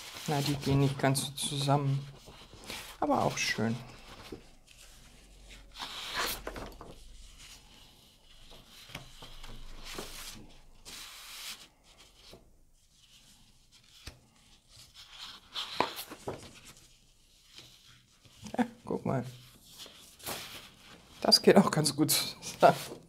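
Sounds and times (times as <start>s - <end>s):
paper sheets rustling: 0.0s - 12.4s, 13.0s - 18.7s, 19.4s - 23.0s.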